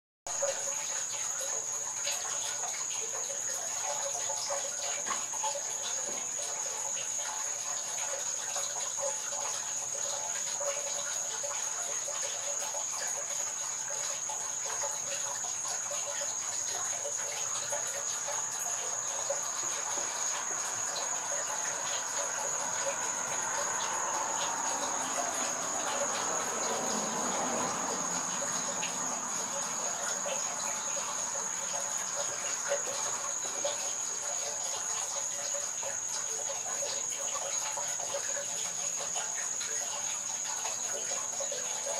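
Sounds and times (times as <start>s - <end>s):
shrill insect chorus: 0.3s - 41.9s.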